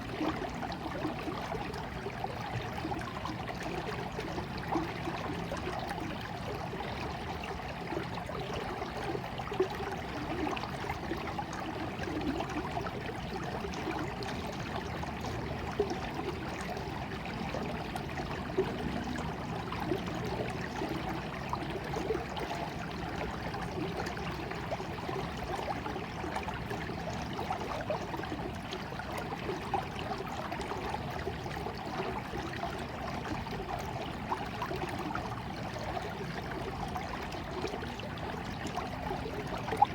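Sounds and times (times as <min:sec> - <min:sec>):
stream trickling and babbling: 0:00.0 - 0:39.9
water splashes: 0:00.0 - 0:39.9.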